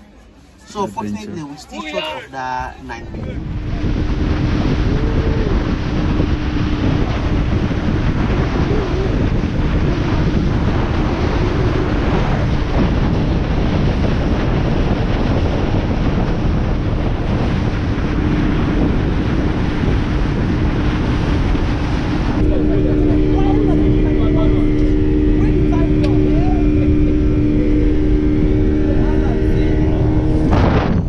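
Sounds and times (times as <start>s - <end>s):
boat engine drone: 0.0s - 31.0s
wind on microphone: 2.9s - 31.0s.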